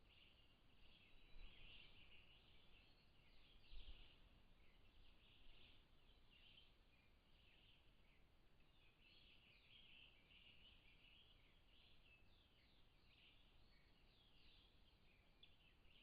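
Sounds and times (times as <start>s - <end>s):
distant birdsong: 0.0s - 16.0s
low background hiss: 0.0s - 16.0s.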